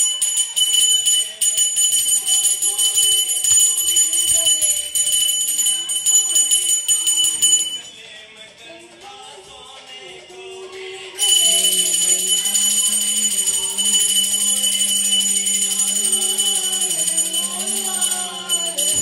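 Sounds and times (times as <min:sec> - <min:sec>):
hand bell ringing rapidly: 0:00.0 - 0:08.0, 0:11.2 - 0:19.0
person singing devotional melody: 0:00.0 - 0:19.0.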